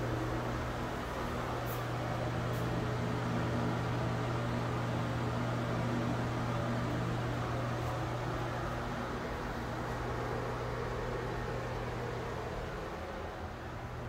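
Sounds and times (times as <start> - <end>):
ventilation fan humming: 0.0 - 14.0.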